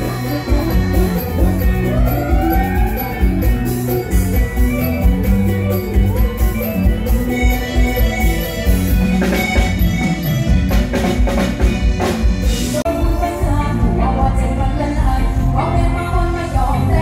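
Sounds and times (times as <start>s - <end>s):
drum kit beat: 0.0s - 14.2s
live band music: 0.0s - 17.0s.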